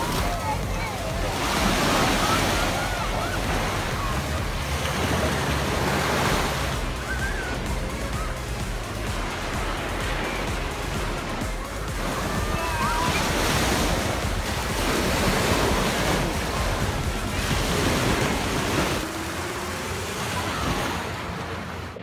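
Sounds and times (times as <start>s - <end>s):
sea waves breaking on beach: 0.0s - 22.0s
wind buffeting microphone: 0.0s - 22.0s.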